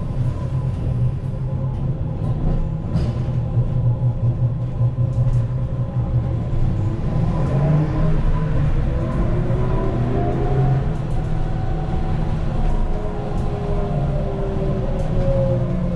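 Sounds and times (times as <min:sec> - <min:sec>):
trolleybus hum and rumble: 0:00.0 - 0:15.9.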